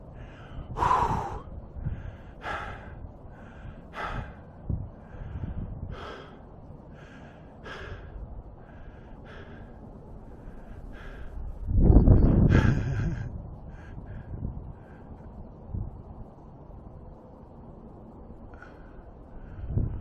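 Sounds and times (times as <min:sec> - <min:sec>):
person breathing hard: 0:00.0 - 0:11.7, 0:12.4 - 0:15.6, 0:18.5 - 0:20.0.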